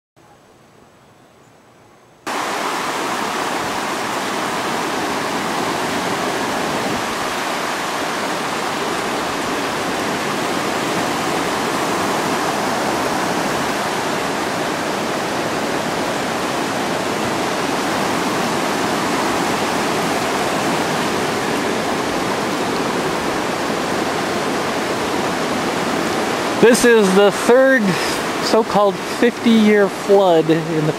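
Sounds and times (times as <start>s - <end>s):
floodwater rushing: 2.3s - 30.9s.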